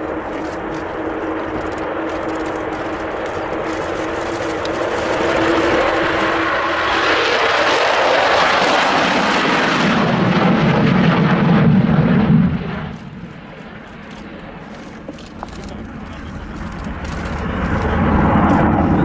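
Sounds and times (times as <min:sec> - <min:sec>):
jet roar with intake howl: 0:00.0 - 0:19.0.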